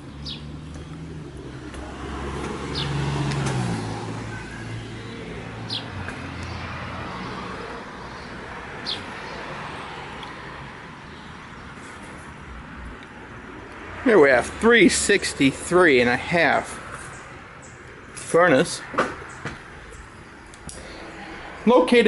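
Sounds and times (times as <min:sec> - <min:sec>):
car passing: 0:00.0 - 0:22.0.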